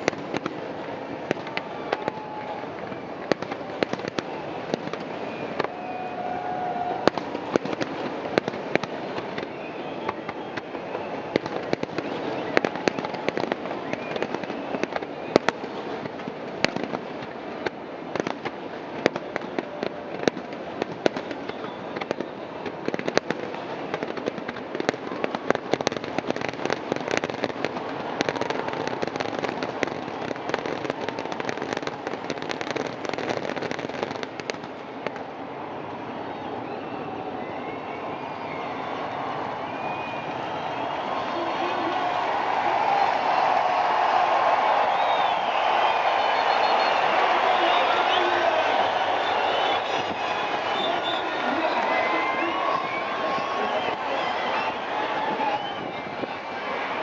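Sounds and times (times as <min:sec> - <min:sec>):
fireworks bangs and crackles: 0:00.0 - 0:57.0
steady background noise: 0:00.0 - 0:57.0.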